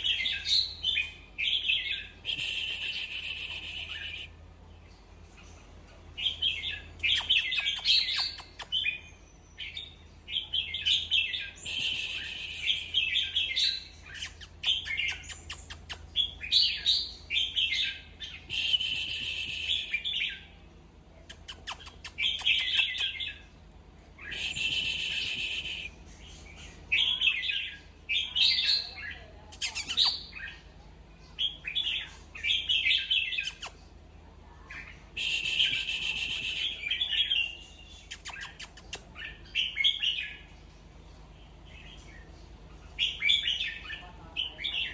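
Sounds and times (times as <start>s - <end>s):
bird singing warbled phrases: 0.0s - 34.1s, 34.7s - 44.9s.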